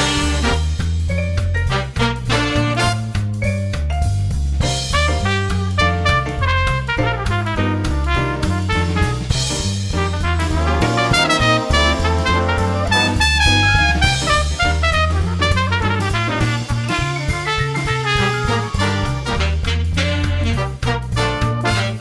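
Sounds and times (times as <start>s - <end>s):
upbeat swing jazz with brass: 0.0s - 22.0s.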